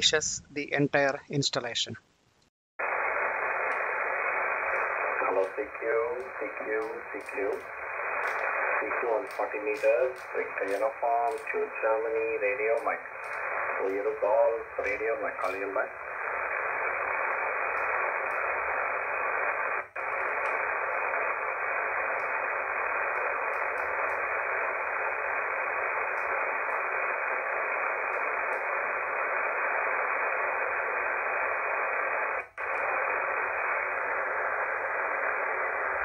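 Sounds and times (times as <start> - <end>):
radio static hiss: 2.8 - 36.0.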